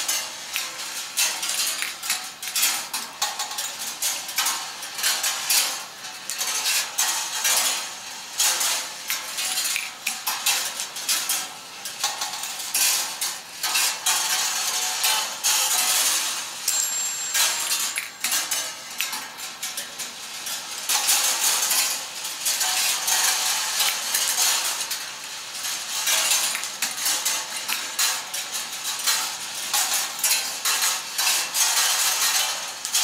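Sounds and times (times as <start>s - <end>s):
balls rattling on metal tracks: 0.0s - 33.0s.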